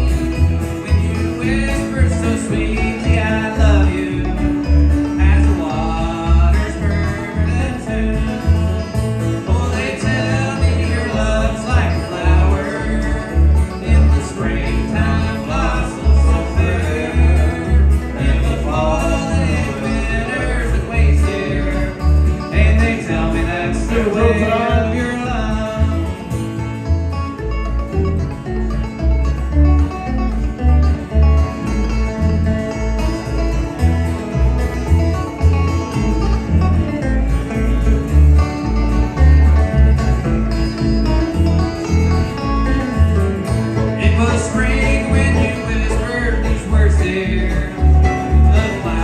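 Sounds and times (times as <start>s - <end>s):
bluegrass band playing: 0.0s - 49.0s.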